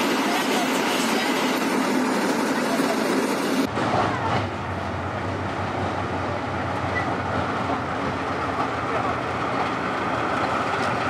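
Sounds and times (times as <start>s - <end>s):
steel tracks clattering: 0.0s - 11.0s.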